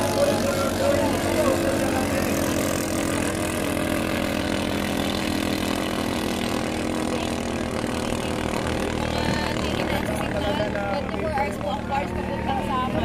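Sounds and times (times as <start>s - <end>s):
racing boat engines droning: 0.0s - 13.0s.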